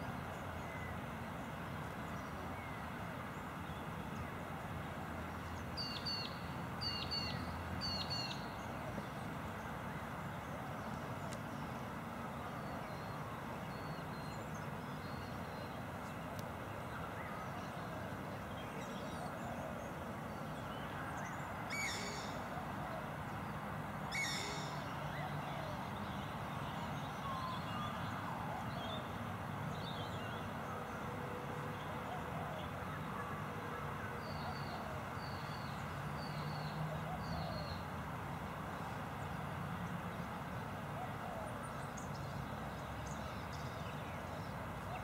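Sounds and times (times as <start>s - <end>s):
background hiss: 0.0s - 45.0s.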